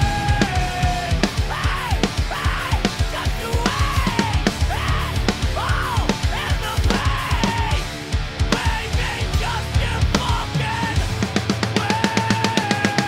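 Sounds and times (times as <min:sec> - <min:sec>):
pounding drum kit: 0:00.0 - 0:13.0
rock band playing: 0:00.0 - 0:13.0.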